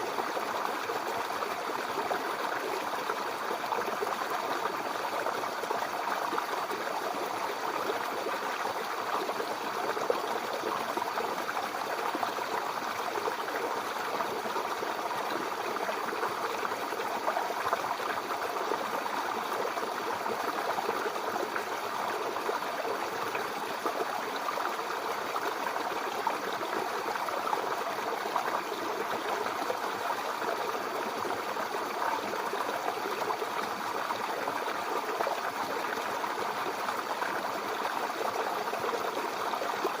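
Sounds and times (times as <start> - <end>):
brook babbling over stones: 0.0 - 40.0.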